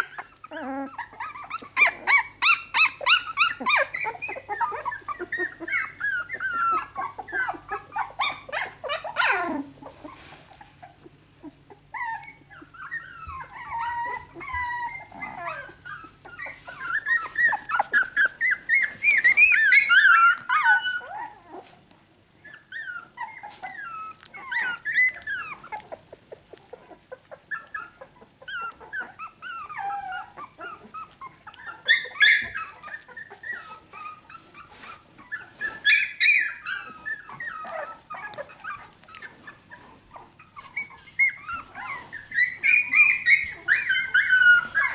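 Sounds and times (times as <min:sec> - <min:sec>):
puppies crying: 0:00.0 - 0:21.8, 0:22.4 - 0:44.9.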